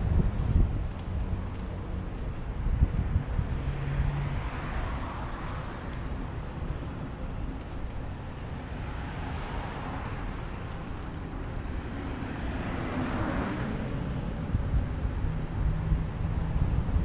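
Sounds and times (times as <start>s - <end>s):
steady low rumble: 0.0s - 17.0s
car passing: 1.0s - 17.0s.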